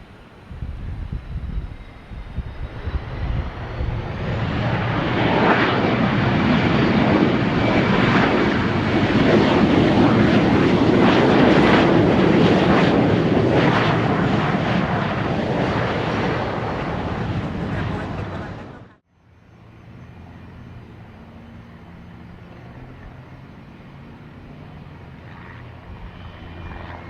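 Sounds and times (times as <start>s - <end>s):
aircraft engines roaring: 0.0s - 27.0s.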